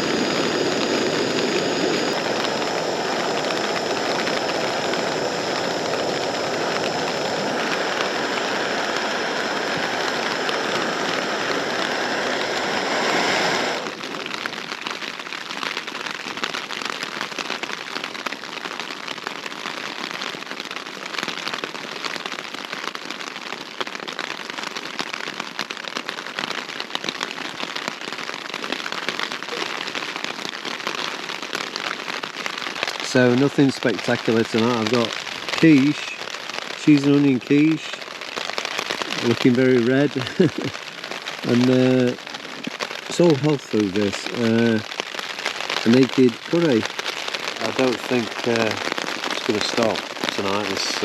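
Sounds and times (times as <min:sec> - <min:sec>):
heavy rain on tent: 0:00.0 - 0:51.0.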